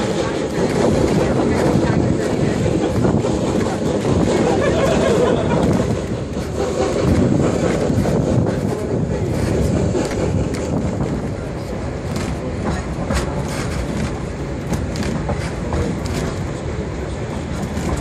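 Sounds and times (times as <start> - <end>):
train car rumbling: 0.0 - 18.0.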